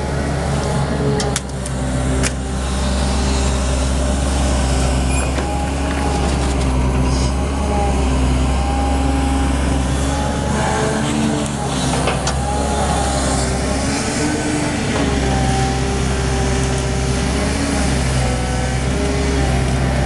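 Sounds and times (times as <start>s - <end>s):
diesel engine humming under load: 0.0s - 20.0s
hydraulic whining: 0.9s - 19.9s.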